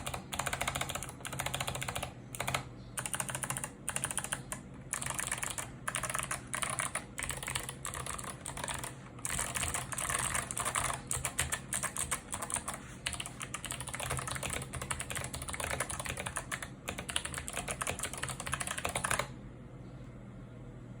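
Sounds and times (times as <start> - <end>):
mechanical keyboard typing: 0.0 - 19.3.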